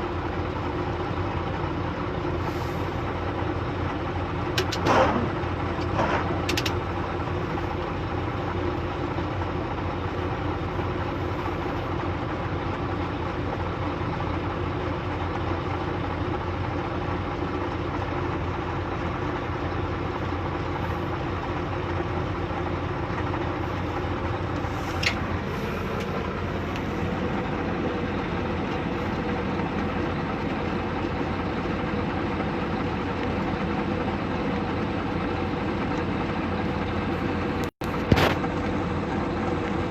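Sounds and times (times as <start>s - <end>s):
vehicle engine humming: 0.0s - 39.9s.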